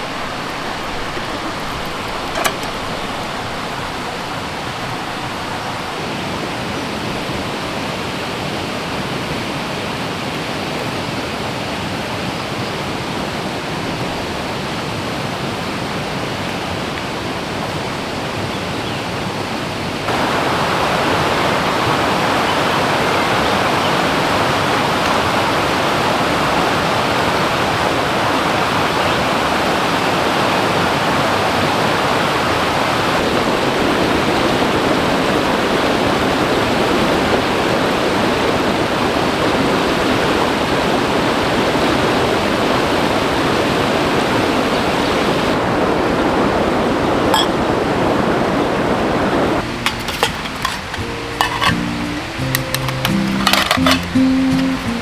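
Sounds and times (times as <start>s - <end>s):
stream rushing: 0.0s - 18.4s, 19.8s - 55.0s.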